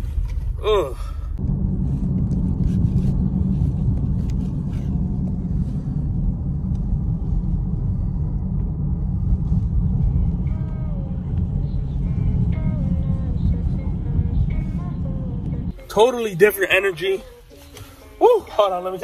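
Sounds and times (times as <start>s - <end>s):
car road noise in cabin: 0.0s - 19.0s.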